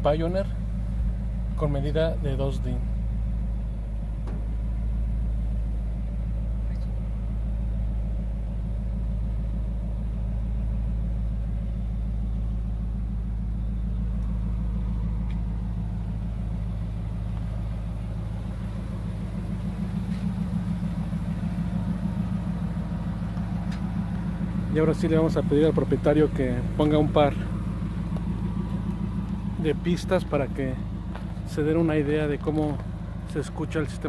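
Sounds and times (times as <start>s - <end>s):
pickup truck engine idling: 0.0s - 34.0s.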